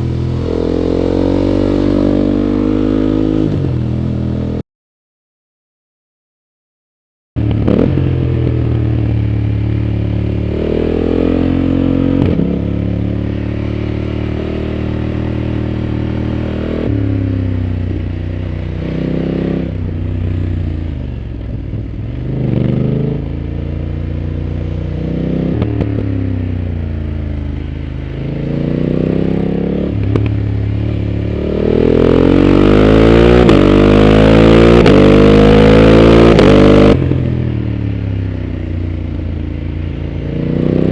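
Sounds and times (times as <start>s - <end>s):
motorcycle engine revving: 0.0s - 4.6s, 7.4s - 40.9s.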